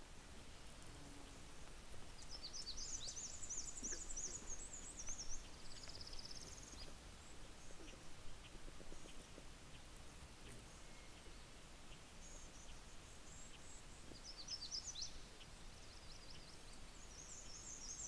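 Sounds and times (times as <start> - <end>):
faint outdoor background hiss: 0.0 - 18.0
small songbird singing: 1.6 - 18.0.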